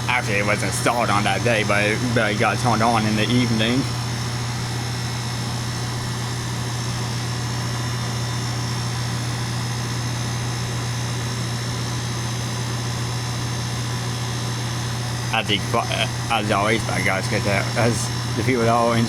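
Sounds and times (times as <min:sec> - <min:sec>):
fan air rushing: 0:00.0 - 0:19.0
heat pump humming: 0:00.0 - 0:19.0.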